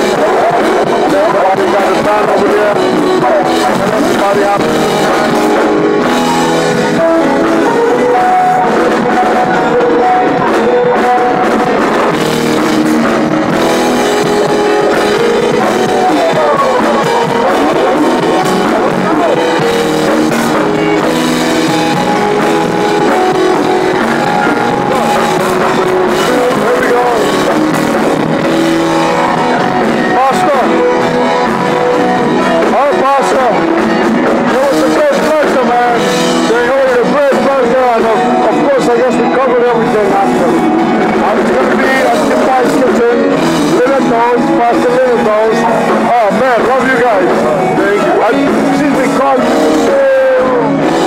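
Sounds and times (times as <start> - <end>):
electric guitar: 0.0 - 51.0
keyboard: 0.0 - 51.0.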